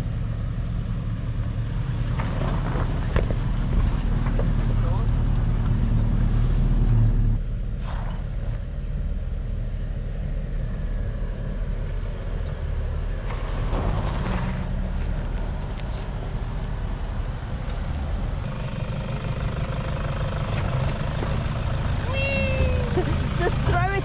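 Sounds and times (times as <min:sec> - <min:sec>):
vehicle engines low rumble: 0:00.0 - 0:24.0.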